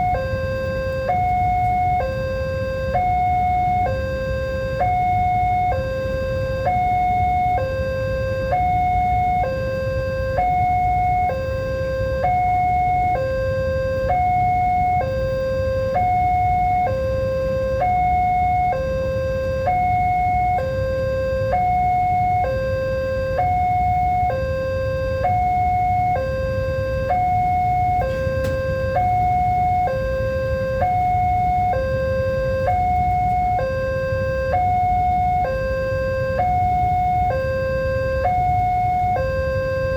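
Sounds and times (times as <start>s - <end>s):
level crossing alarm tones: 0.0s - 39.9s.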